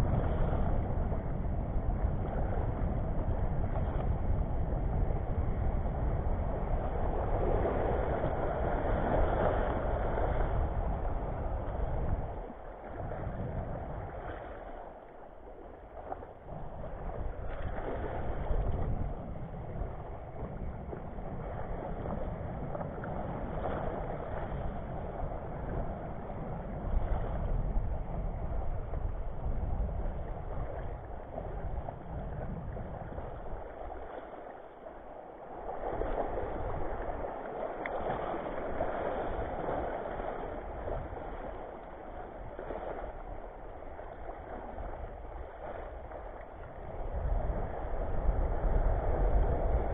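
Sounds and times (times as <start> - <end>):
wind rumbling on microphone: 0.0 - 49.9
small waves lapping: 6.5 - 49.9.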